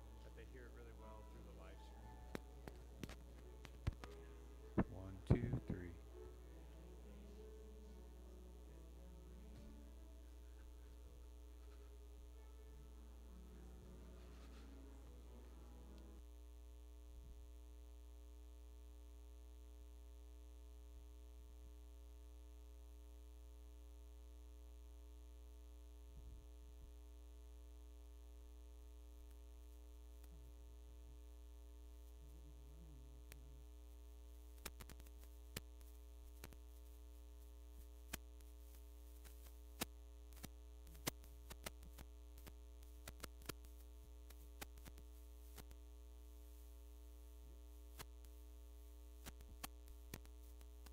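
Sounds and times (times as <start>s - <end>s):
electrical mains hum: 0.0s - 50.9s.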